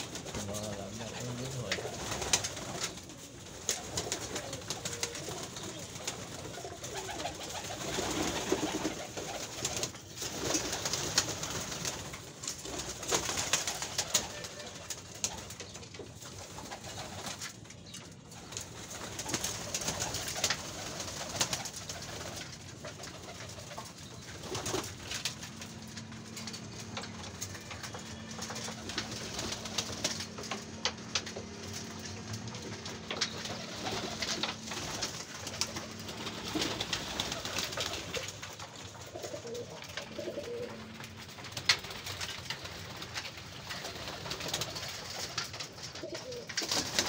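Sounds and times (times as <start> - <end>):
pigeons cooing: 0.0 - 47.0
wingbeats: 0.0 - 47.0.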